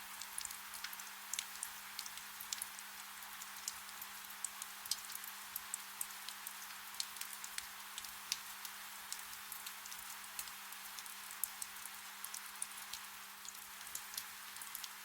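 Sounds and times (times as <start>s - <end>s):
soft rain hiss: 0.0s - 15.0s.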